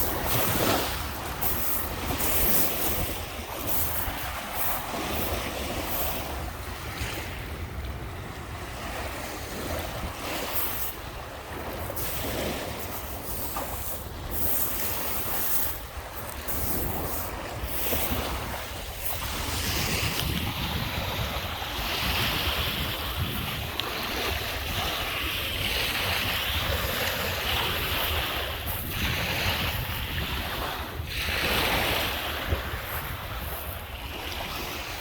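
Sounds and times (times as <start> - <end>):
waves washing onto beach: 0.0 - 35.0
wind rumbling on microphone: 0.0 - 35.0.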